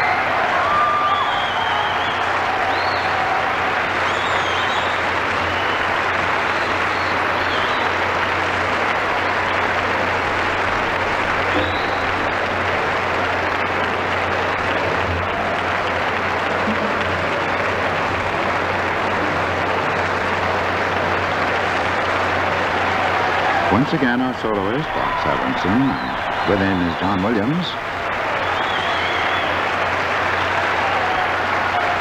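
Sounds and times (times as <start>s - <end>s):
audience applauding: 0.0s - 32.0s.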